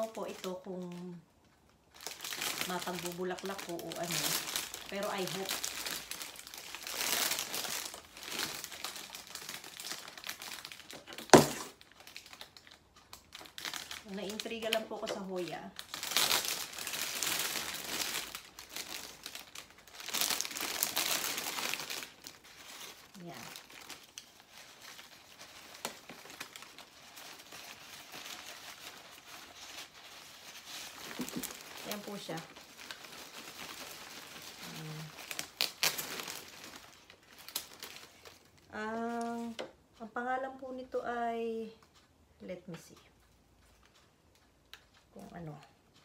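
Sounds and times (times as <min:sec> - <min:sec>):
plastic sleeve crinkling: 0:00.0 - 0:39.7.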